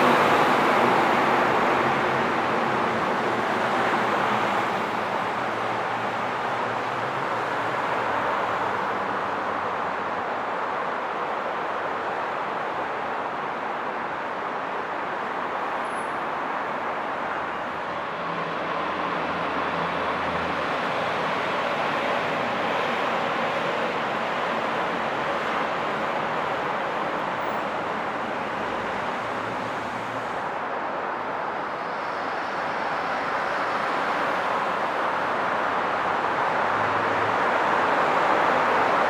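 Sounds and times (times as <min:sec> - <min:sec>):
highway traffic: 0:00.0 - 0:39.0.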